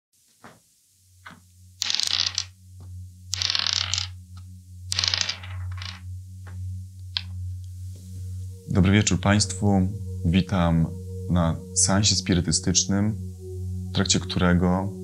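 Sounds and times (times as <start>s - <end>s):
low steady hum: 0.6s - 15.0s.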